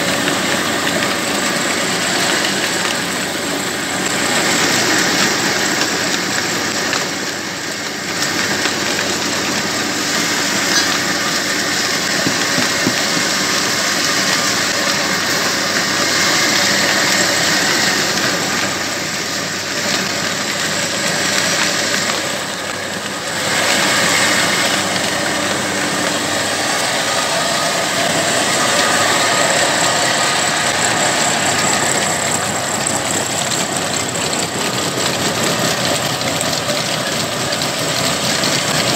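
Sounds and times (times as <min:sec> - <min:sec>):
belt-driven machinery: 0:00.0 - 0:38.9
stationary diesel engine running: 0:00.0 - 0:38.9.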